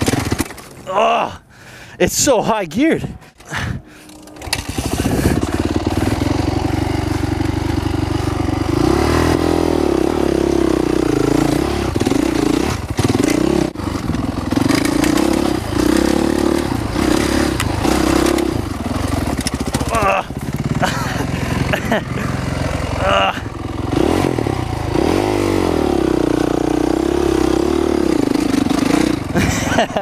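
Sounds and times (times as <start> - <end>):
dirt bike engine revving: 0.0 - 1.4, 2.3 - 30.0.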